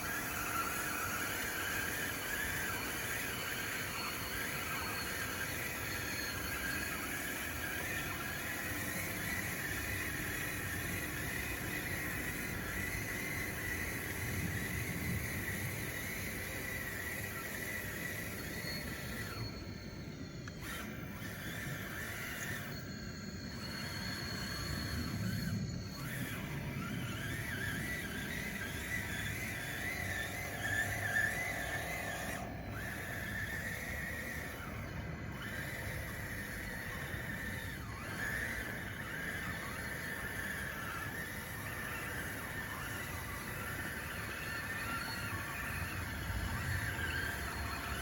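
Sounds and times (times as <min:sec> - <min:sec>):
electric drive whining: 0:00.0 - 0:48.0.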